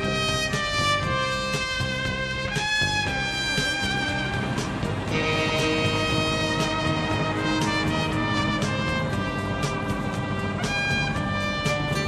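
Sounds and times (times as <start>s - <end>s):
karaoke backing track with brass: 0.0s - 12.0s.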